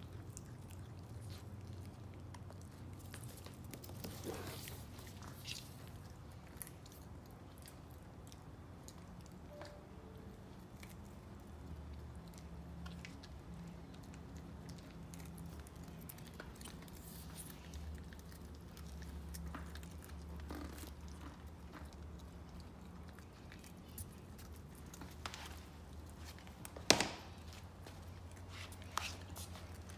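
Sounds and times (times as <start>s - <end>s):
faint low hum: 0.0s - 29.9s
puppy chewing and crunching: 0.0s - 29.9s.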